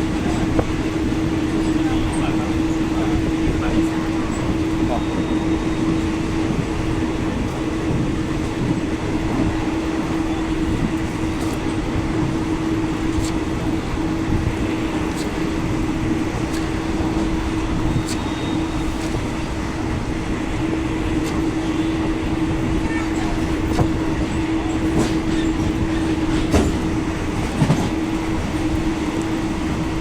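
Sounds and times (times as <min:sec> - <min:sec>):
constant hum: 0:00.0 - 0:30.0
rail clicks and knocks: 0:00.0 - 0:30.0
train wheels rumbling on track: 0:00.0 - 0:30.0.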